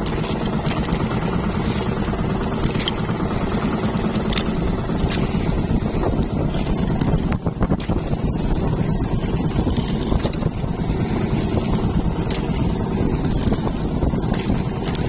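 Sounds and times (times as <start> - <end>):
water splashing and dripping: 0.0 - 15.0
wind buffeting microphone: 0.0 - 15.0.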